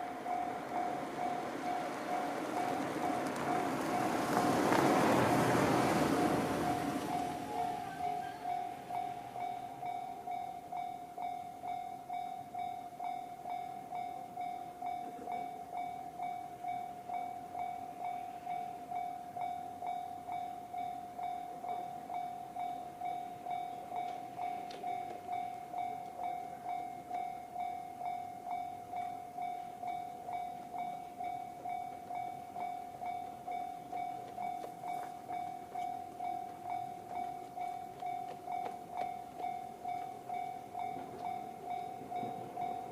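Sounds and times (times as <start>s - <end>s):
level-crossing electronic bell: 6.2s - 42.9s.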